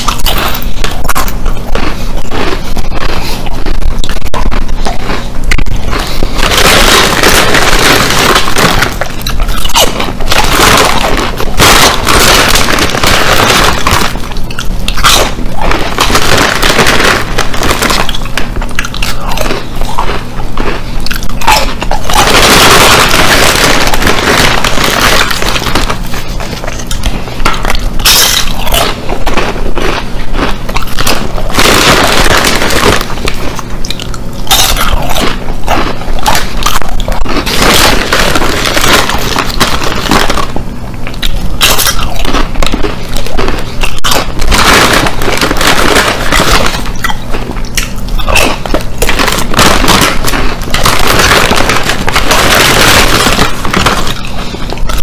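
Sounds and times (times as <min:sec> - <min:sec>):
crunching potato chips: 0:00.0 - 0:55.0.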